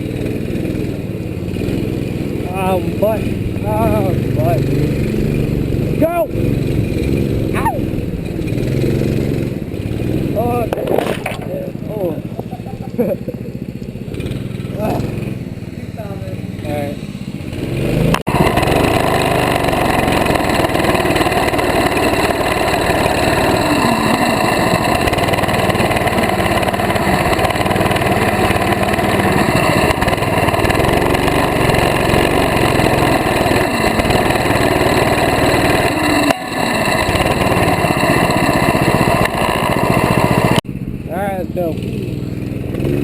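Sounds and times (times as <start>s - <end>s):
small motorbike engine running: 0.0s - 43.0s.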